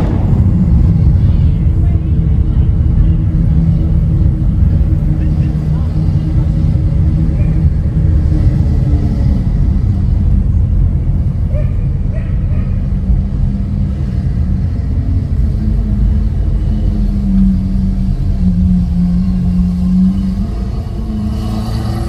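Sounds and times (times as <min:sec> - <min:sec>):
car engine and road rumble: 0:00.0 - 0:22.0
steady engine drone: 0:00.0 - 0:22.0.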